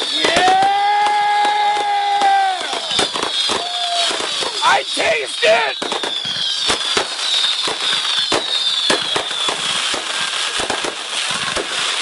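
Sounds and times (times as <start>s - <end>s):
descending fireworks whistles: 0.0s - 12.0s
fireworks bangs: 0.0s - 12.0s
fireworks crackling: 0.0s - 12.0s.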